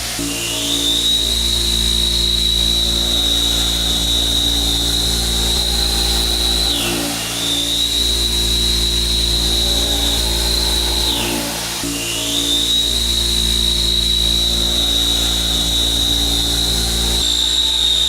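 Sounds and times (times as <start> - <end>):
low machine hum: 0.0 - 17.7
machine tool high whine: 0.0 - 18.0.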